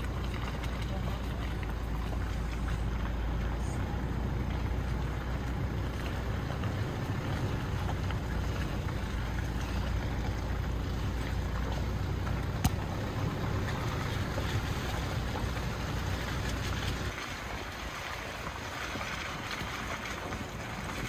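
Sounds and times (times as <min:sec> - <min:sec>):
low engine rumble: 0:00.0 - 0:21.0
road and tyre noise: 0:00.0 - 0:21.0.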